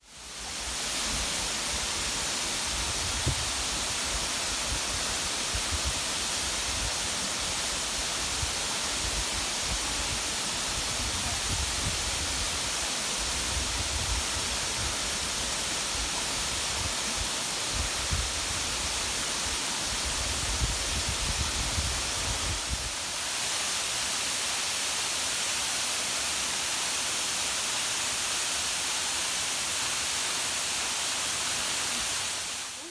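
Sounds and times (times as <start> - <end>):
waterfall pouring: 0.1 - 32.9.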